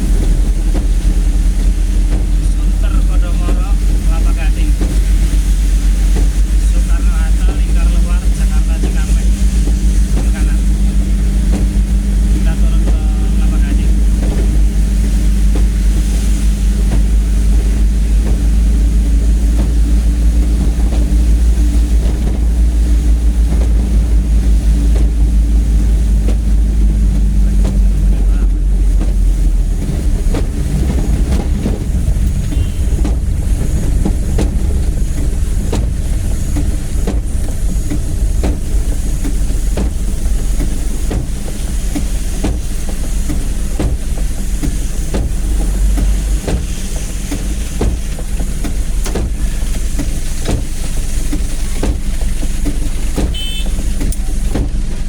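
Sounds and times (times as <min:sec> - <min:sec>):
engine and road rumble: 0:00.0 - 0:55.0
rain hiss: 0:00.0 - 0:55.0.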